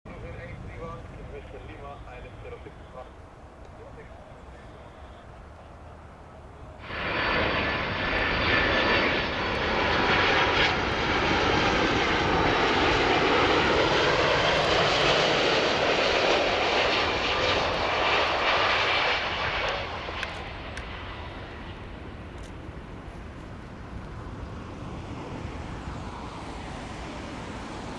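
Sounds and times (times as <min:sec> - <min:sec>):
faint steady jet whine: 0:00.1 - 0:27.9
jet airliner passing overhead: 0:00.1 - 0:27.9.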